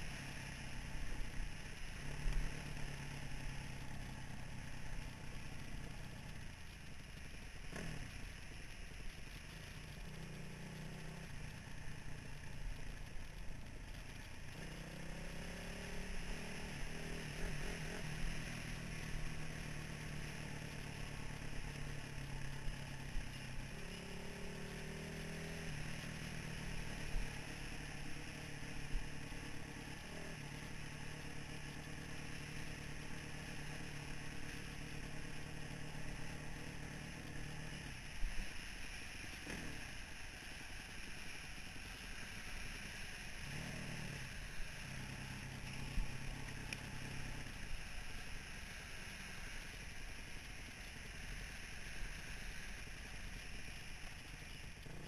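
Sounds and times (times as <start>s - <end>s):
dirt bike engine running: 0.0s - 55.0s
wind and tyre noise: 0.0s - 55.0s.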